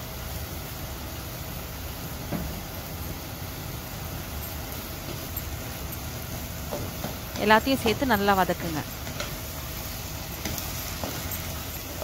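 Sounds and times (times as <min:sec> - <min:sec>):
meat and onions sizzling: 0:00.0 - 0:12.0.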